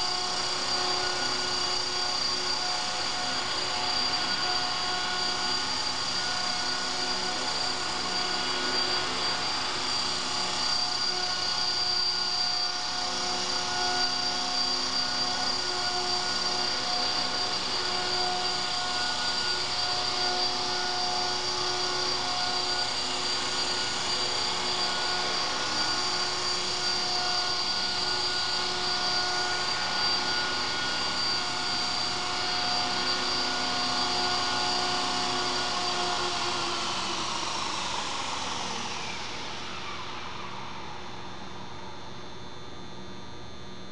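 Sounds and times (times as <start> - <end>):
rc helicopter hovering: 0.0 - 42.7.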